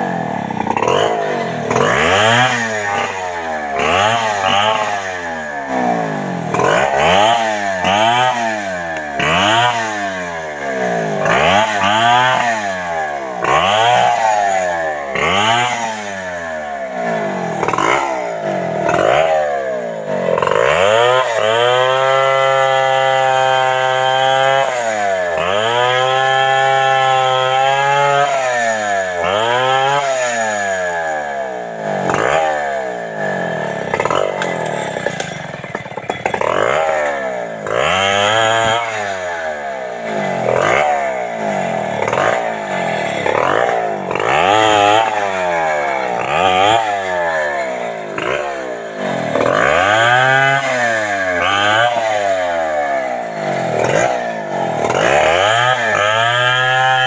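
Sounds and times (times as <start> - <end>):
chainsaw cutting limbs: 0.0 - 57.0.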